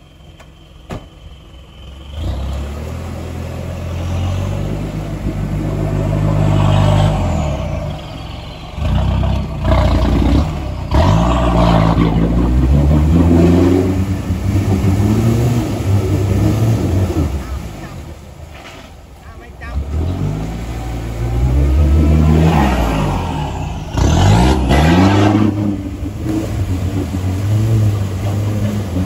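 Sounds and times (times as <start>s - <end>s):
tyres churning through mud: 0.0s - 29.0s
truck engine revving hard: 1.9s - 18.2s, 19.5s - 29.0s.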